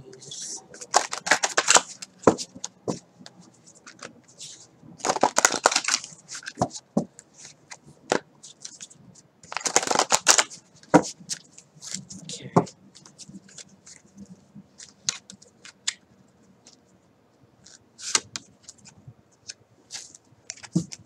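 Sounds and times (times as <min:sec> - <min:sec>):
cards being shuffled: 0:00.3 - 0:14.1, 0:17.6 - 0:21.0.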